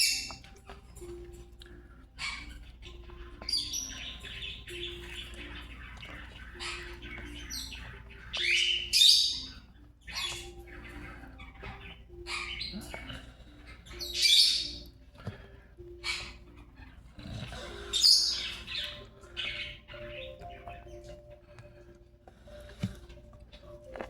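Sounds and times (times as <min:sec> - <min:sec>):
parrot squawking and chirping: 0:00.0 - 0:24.0.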